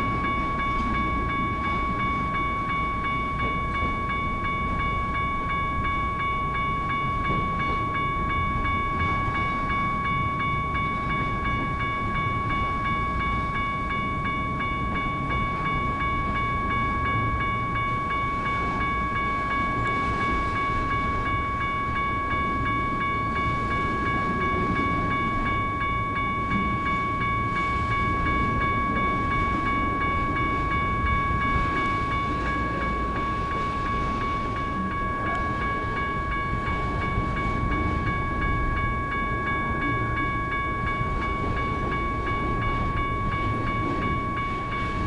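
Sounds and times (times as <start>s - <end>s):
crossing bells ringing: 0.0s - 45.0s
freight train rumbling: 0.0s - 45.0s.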